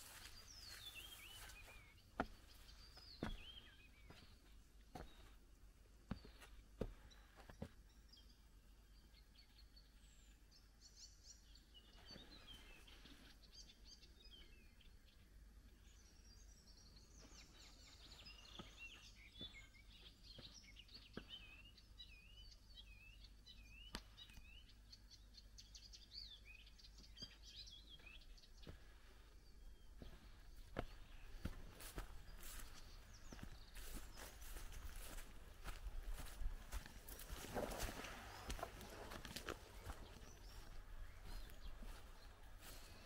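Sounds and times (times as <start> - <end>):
songbirds singing and calling: 0.0 - 43.0.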